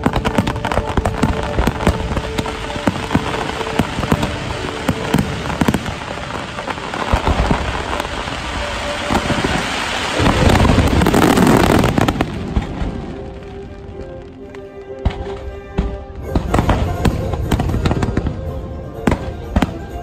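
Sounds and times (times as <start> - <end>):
fireworks bursting: 0.0 - 20.0
fireworks crackling: 0.0 - 20.0.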